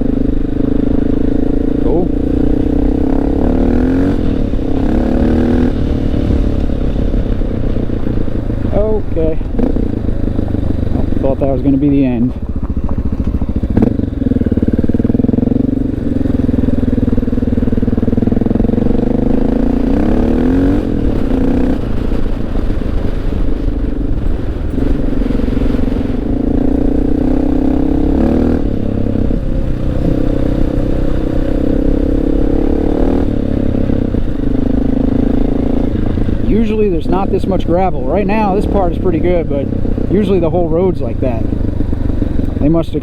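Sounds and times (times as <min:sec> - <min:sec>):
motorcycle engine riding: 0:00.0 - 0:43.0.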